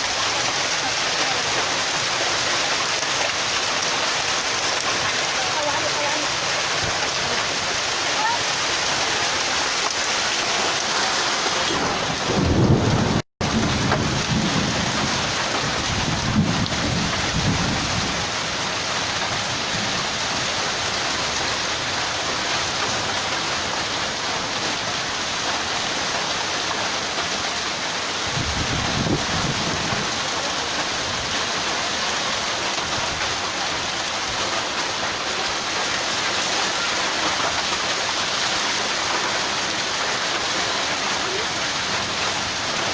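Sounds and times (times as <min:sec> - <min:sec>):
hail and heavy rain: 0:00.0 - 0:42.9.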